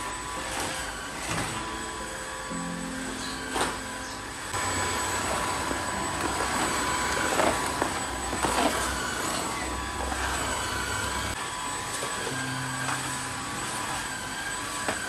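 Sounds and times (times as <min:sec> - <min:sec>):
wet floor vacuum whirring: 0:00.0 - 0:15.0.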